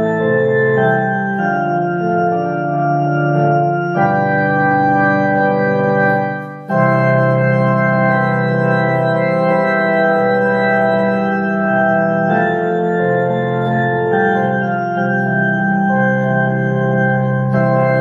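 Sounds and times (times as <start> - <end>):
organ chords on keyboard: 0.0 - 18.0.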